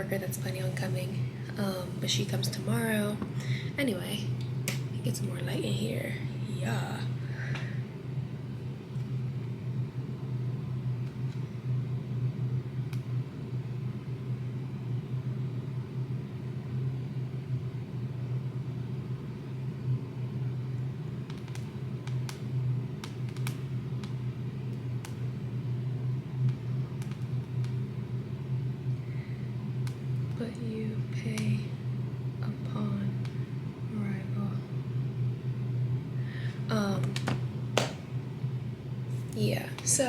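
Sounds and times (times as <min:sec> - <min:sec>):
low mechanical hum: 0:00.0 - 0:40.0.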